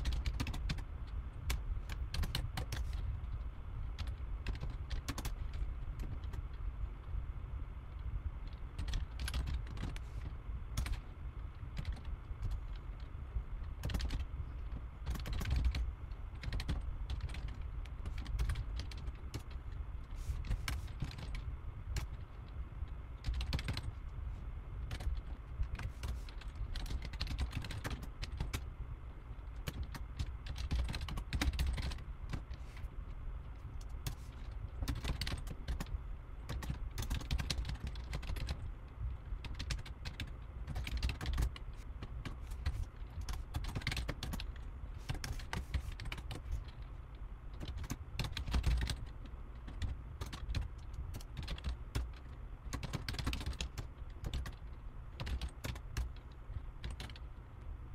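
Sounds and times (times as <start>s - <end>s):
keyboard typing: 0.0s - 3.0s, 4.0s - 6.5s, 8.4s - 11.1s, 11.7s - 19.7s, 20.3s - 22.6s, 23.2s - 24.0s, 24.8s - 28.7s, 29.4s - 32.7s, 33.8s - 38.7s, 39.4s - 46.8s, 47.6s - 57.3s
steady low hum: 0.0s - 57.9s.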